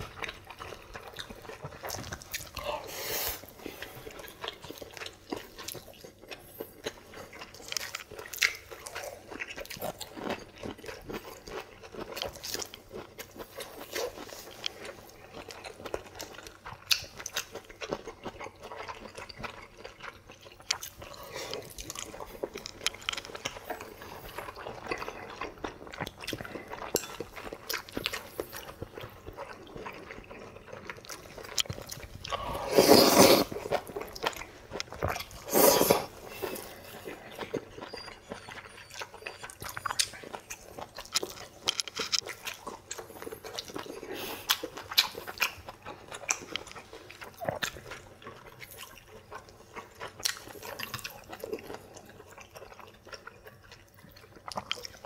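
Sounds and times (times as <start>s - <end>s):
people chewing and biting: 0.0s - 55.0s.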